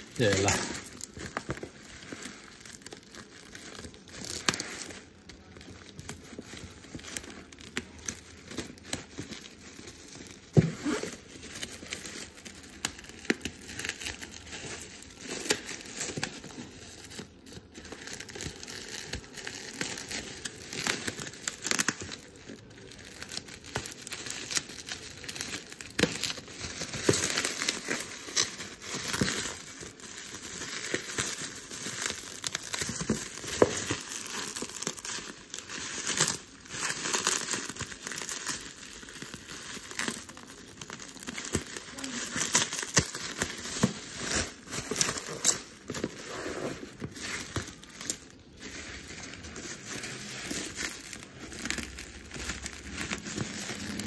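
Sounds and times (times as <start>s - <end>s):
bubble wrap crinkling and snapping: 0.0s - 54.0s.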